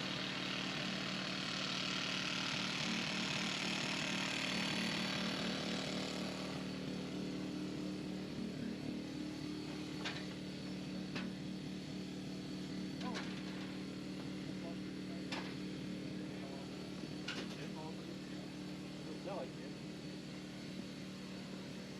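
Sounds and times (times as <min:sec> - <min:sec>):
small engine humming: 0:00.0 - 0:21.9.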